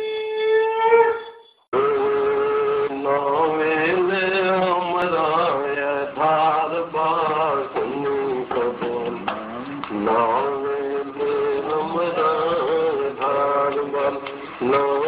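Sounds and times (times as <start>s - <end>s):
man singing slow melody: 1.7s - 15.0s.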